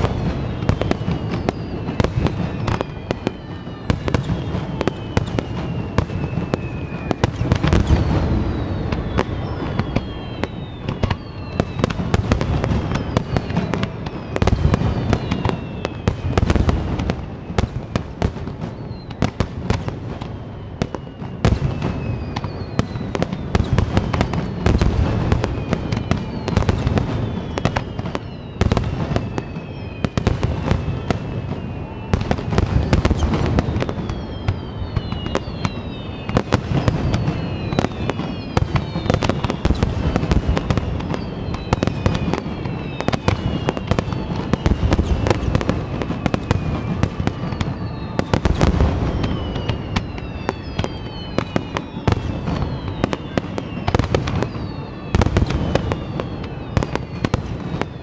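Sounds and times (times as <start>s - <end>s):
falling firework whistles: 0.0s - 58.0s.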